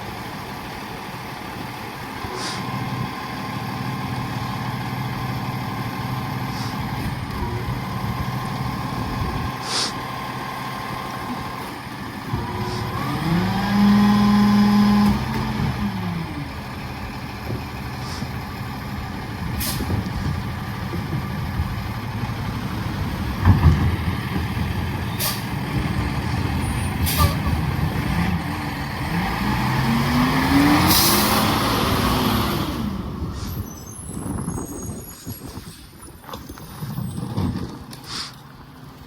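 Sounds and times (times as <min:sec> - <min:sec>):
truck diesel engine revving: 0:00.2 - 0:34.9.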